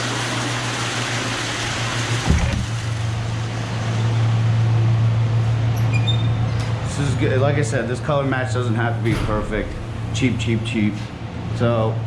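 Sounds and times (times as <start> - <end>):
machine hum with airy hiss: 0.6 - 12.0.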